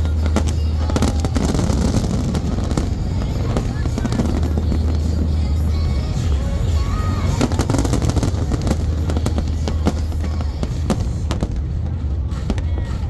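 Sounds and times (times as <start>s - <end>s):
fireworks cracking and banging: 0.0s - 13.0s
low rumble: 0.0s - 13.0s.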